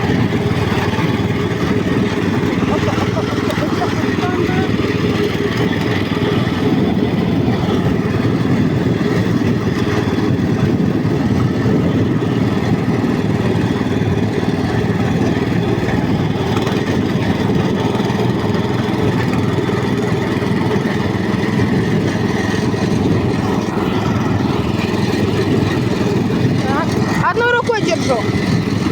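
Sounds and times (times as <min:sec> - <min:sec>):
walk-behind tractor engine running: 0:00.0 - 0:28.9.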